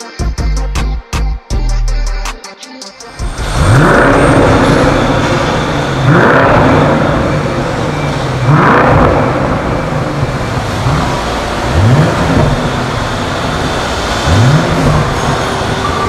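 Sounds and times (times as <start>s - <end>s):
car engine revving: 3.1s - 16.0s.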